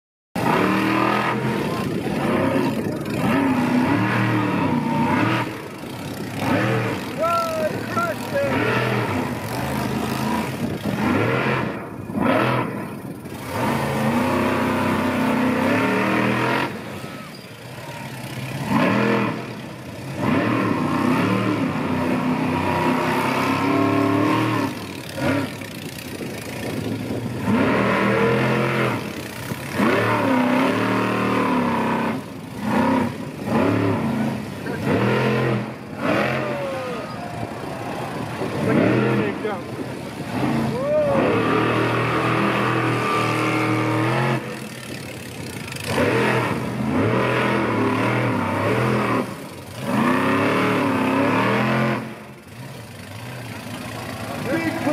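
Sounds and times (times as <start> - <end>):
monster truck engine revving: 0.4 - 54.9.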